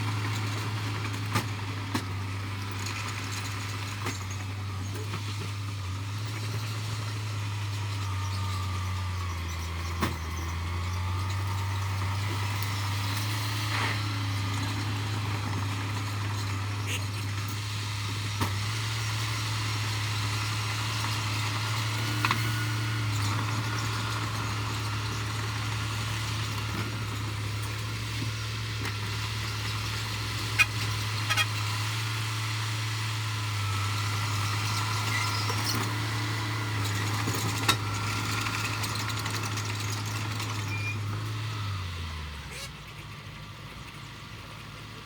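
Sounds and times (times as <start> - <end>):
diesel engine droning: 0.0 - 45.0.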